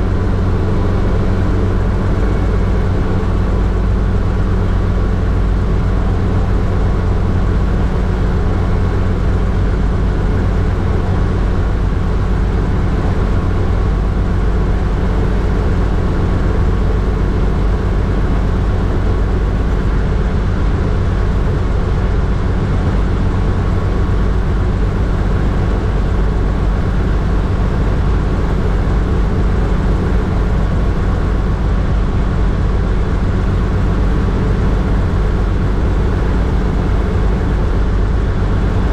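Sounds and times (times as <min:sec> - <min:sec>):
helicopter engine and rotors drone: 0:00.0 - 0:38.9.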